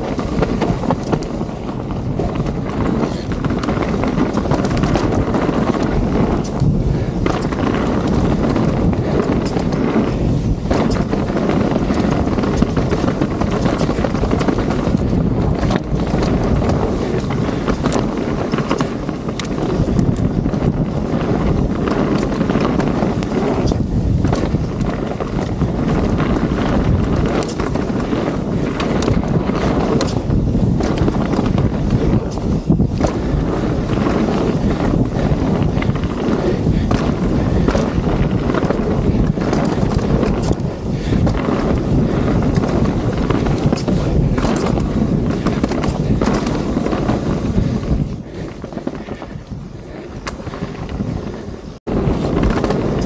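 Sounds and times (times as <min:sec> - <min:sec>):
bike clicks and rattles: 0:00.0 - 0:53.0
tyres rolling on dirt: 0:00.0 - 0:53.0
wind rushing over microphone: 0:00.0 - 0:53.0.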